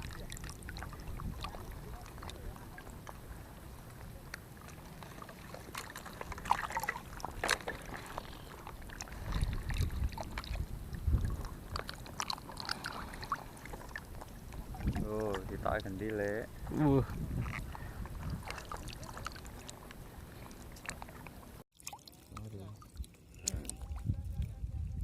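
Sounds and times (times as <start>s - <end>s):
sharp water splashes: 0.0s - 24.0s
water lapping and splashing: 0.0s - 24.6s.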